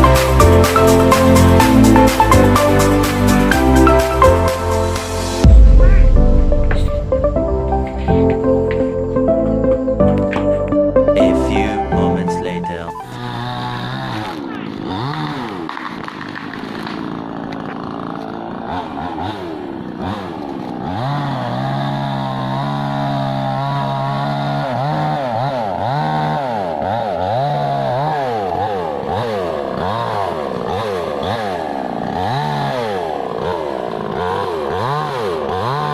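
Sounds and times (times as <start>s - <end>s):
chainsaw engine revving: 0.0s - 9.6s, 12.1s - 35.9s.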